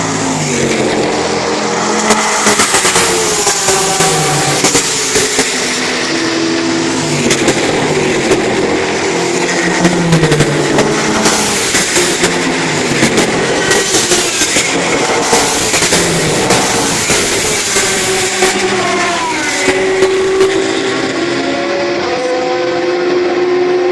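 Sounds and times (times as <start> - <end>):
race cars passing at speed: 0.0 - 23.9.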